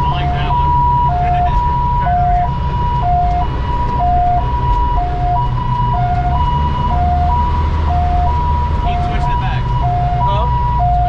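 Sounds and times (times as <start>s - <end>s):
truck engine running: 0.0s - 11.0s
two-tone hi-lo siren: 0.0s - 11.0s.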